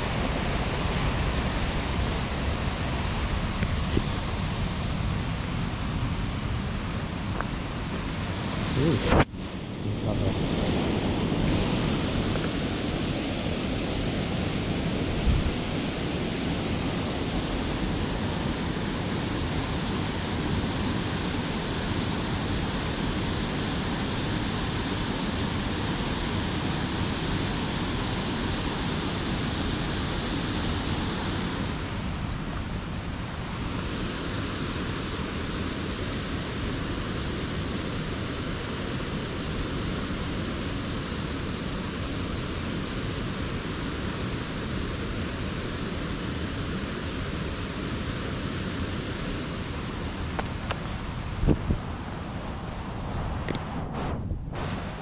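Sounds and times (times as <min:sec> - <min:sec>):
mountain stream rushing: 0:00.0 - 0:53.6.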